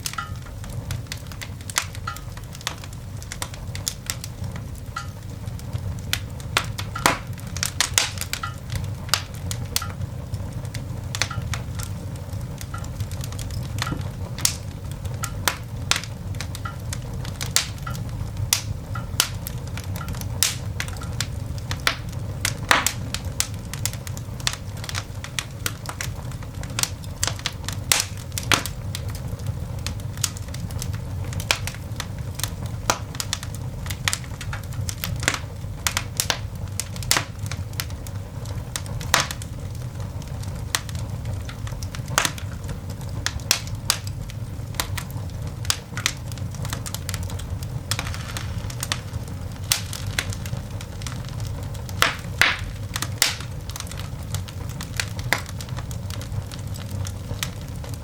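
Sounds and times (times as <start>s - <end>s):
coal fire crackling and popping: 0.0s - 58.0s.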